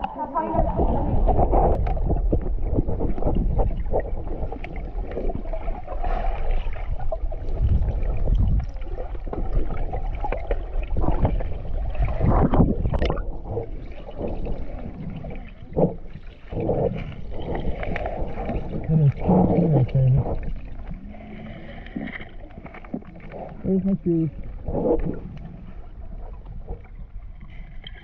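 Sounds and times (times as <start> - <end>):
underwater gurgling and sloshing: 0.0 - 28.0.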